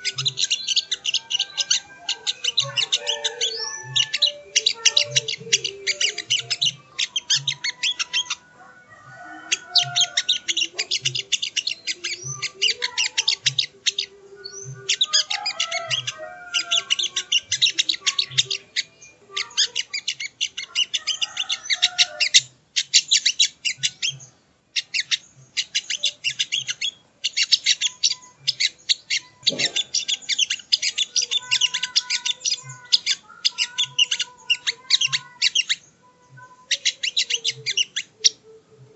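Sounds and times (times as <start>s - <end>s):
songbird chattering song: 0.0s - 38.9s.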